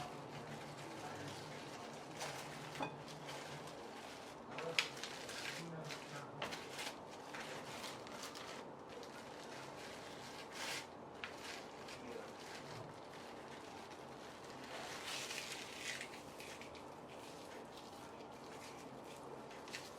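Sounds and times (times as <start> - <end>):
plastic wrapping crinkling: 0.0 - 19.9.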